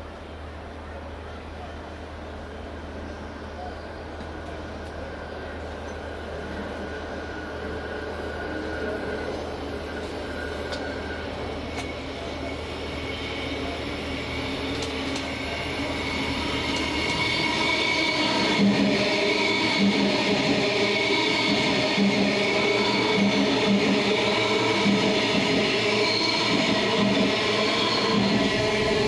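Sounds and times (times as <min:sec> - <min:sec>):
electric train rumble: 0:00.0 - 0:29.0
high train whine: 0:00.0 - 0:29.0.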